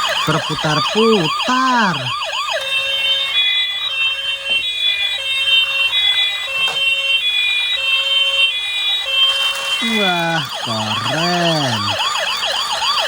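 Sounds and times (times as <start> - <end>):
toy electronic siren beeping: 0.0 - 13.0.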